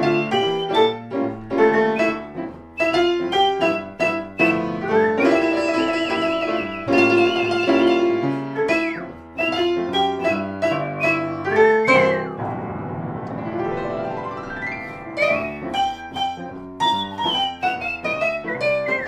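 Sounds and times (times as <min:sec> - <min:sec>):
whistled melody: 0:00.0 - 0:12.5, 0:14.3 - 0:19.0
piano chords: 0:00.0 - 0:19.0.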